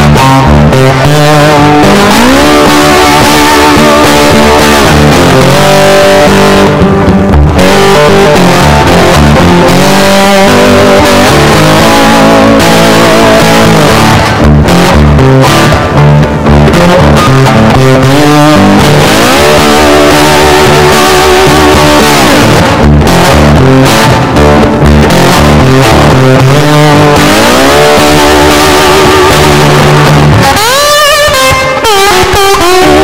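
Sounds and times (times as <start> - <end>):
electric guitar music with bass: 0.0 - 33.0.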